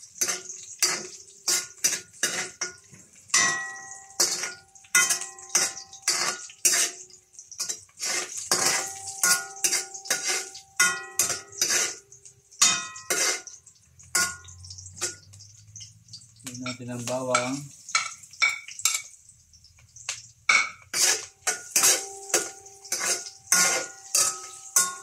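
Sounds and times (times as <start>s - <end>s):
metal spatula scraping a wok: 0.0s - 16.2s, 20.5s - 25.0s.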